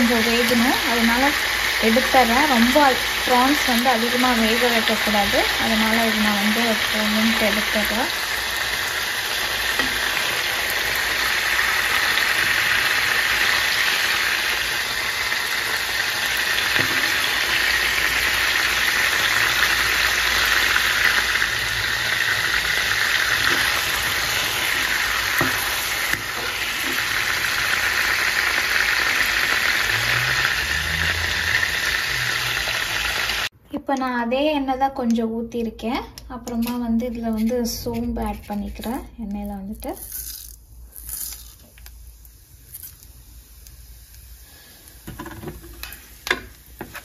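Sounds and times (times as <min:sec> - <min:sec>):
prawns sizzling in hot oil: 0:00.0 - 0:33.5, 0:38.8 - 0:47.0.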